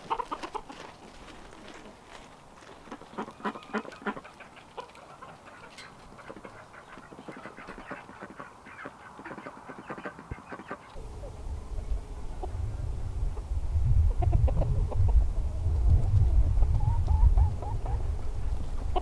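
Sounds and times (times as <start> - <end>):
poultry clucking: 0.0 - 19.0.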